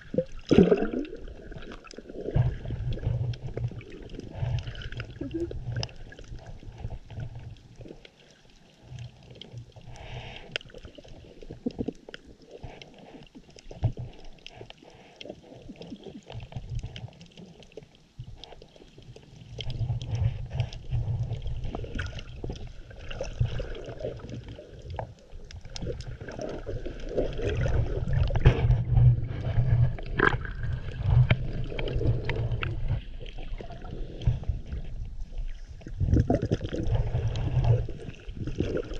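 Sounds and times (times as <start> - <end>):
muffled underwater water rumble: 0.0 - 38.9
small underwater clicks and crackles: 0.0 - 38.9.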